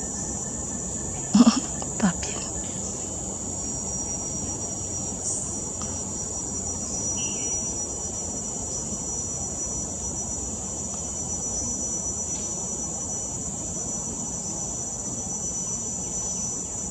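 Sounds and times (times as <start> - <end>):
high-pitched insect chorus: 0.0 - 16.9.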